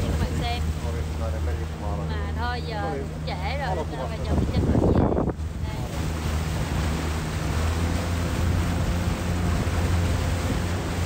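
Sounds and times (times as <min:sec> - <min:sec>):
motorboat engine running: 0:00.0 - 0:11.0
rush of wind and water: 0:00.0 - 0:11.0.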